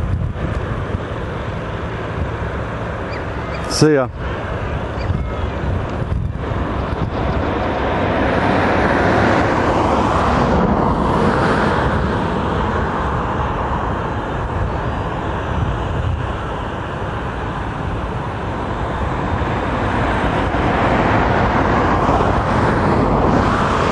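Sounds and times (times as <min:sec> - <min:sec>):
road traffic passing: 0:00.0 - 0:23.9.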